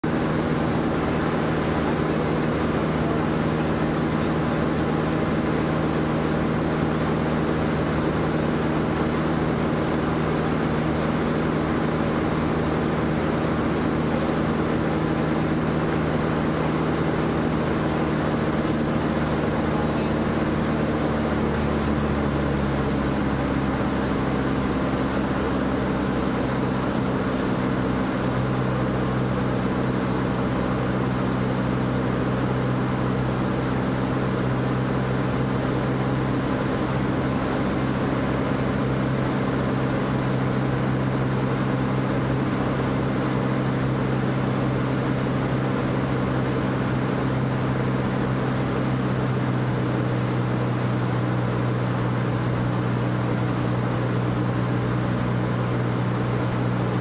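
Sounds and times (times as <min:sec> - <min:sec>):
aircraft engine and propeller: 0:00.0 - 0:57.0.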